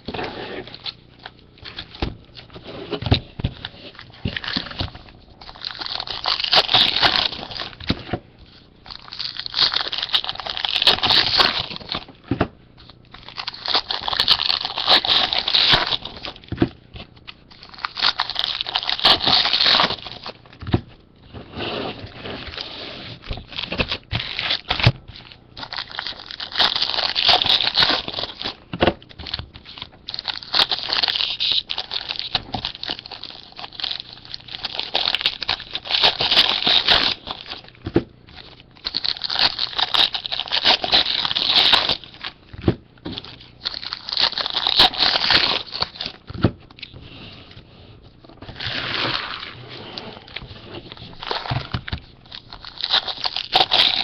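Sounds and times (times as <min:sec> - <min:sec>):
wrappers crinkling and tearing: 0:03.6 - 0:12.2, 0:12.8 - 0:20.6, 0:22.0 - 0:47.6, 0:48.2 - 0:54.0.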